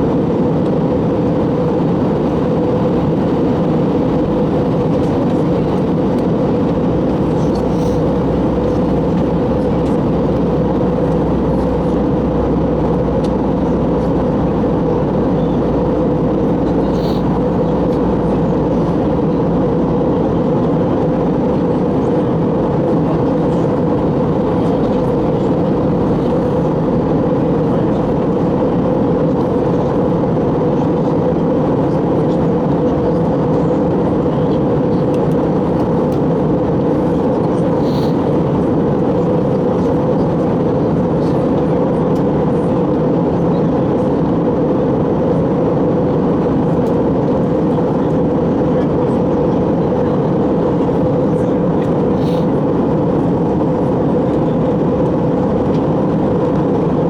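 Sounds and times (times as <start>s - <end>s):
jet engine cabin hum: 0.0s - 57.0s.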